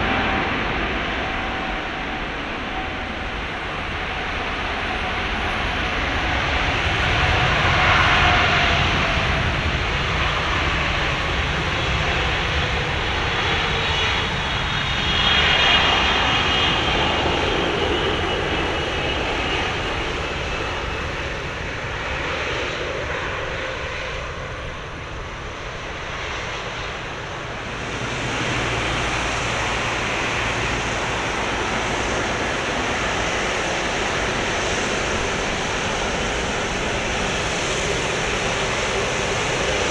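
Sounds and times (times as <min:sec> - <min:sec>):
jet airliner roar and whine: 0:00.0 - 0:39.9.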